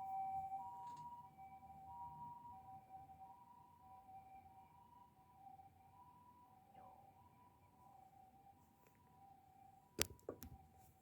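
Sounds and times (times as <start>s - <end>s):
two-tone ambulance siren: 0.0s - 11.0s.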